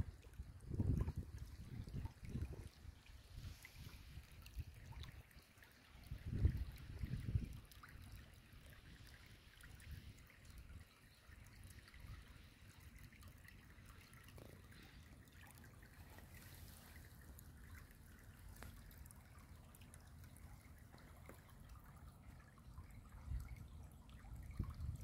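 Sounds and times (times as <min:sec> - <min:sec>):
stream trickling: 0:00.0 - 0:25.0.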